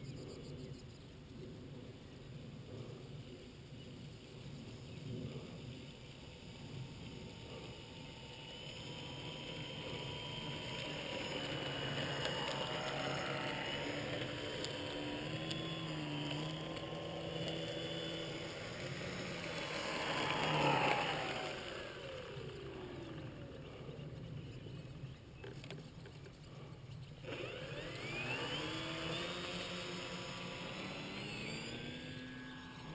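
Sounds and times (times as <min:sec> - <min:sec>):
model plane electric motor whining: 0:04.2 - 0:32.9.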